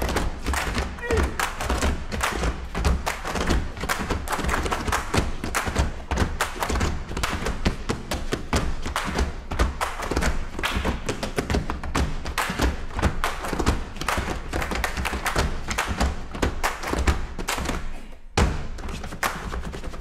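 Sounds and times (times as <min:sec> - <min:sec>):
rhythmic hand claps: 0:00.0 - 0:20.0.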